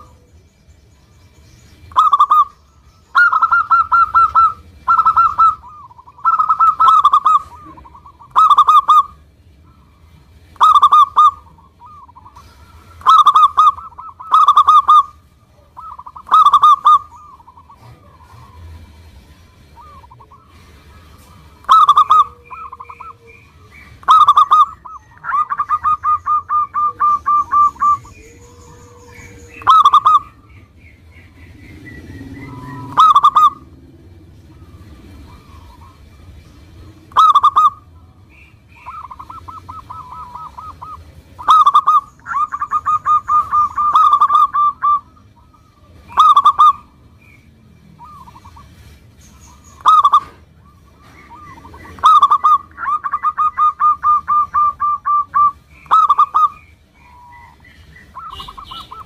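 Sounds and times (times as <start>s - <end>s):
dove cooing: 0.0s - 0.4s, 1.9s - 59.0s.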